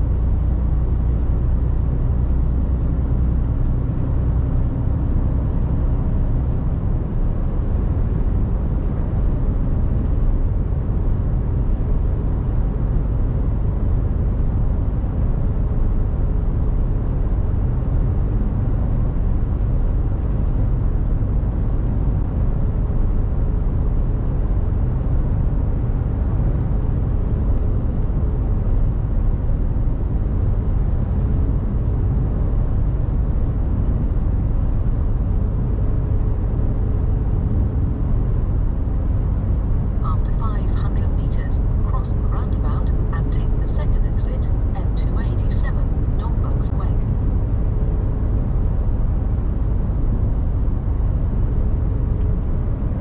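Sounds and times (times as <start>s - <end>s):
road noise: 0.0s - 53.0s
truck diesel engine rumble: 0.0s - 53.0s.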